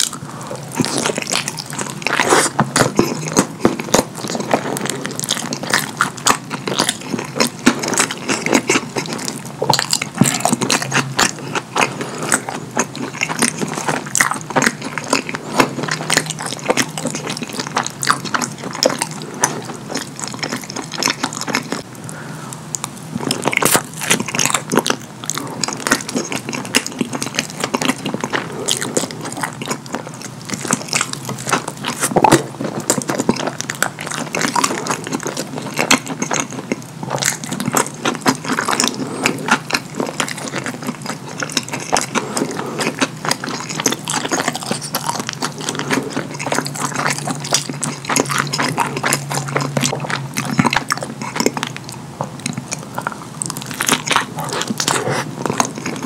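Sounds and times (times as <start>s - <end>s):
chewing and lip smacking: 0.0s - 22.0s, 22.6s - 56.0s.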